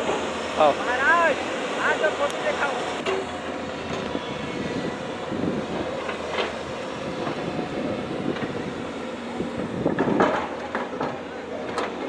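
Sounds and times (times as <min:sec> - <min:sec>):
diesel engines labouring: 0:00.0 - 0:12.0.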